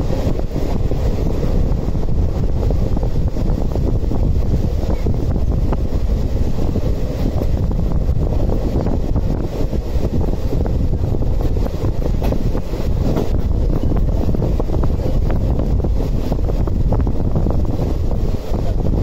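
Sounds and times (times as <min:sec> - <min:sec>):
train wheels rumbling on rails: 0:00.0 - 0:19.0
wind buffeting microphone: 0:00.0 - 0:19.0.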